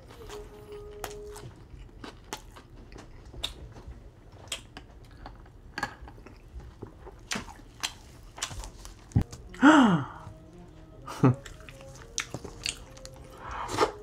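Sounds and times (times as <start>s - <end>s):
person chewing food: 0.0s - 9.6s, 11.2s - 14.0s.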